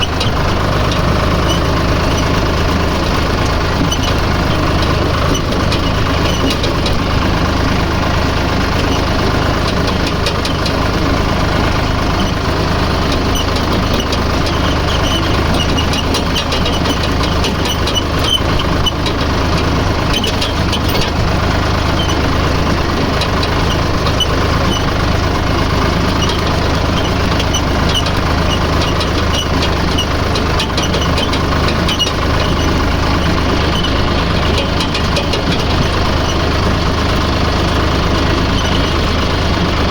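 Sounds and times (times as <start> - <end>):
fine clicks and rattles: 0.0 - 39.9
vehicle engine running: 0.0 - 39.9.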